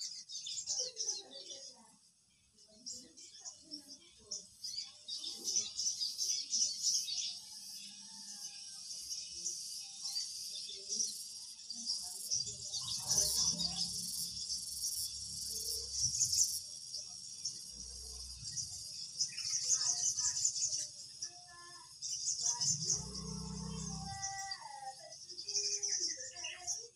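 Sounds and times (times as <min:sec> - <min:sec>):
insects chirring: 0:02.8 - 0:26.8.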